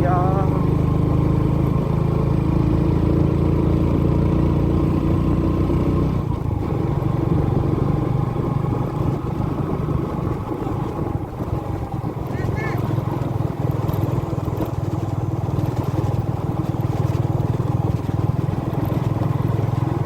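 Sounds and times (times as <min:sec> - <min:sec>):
motorbike engine running: 0:00.0 - 0:20.0.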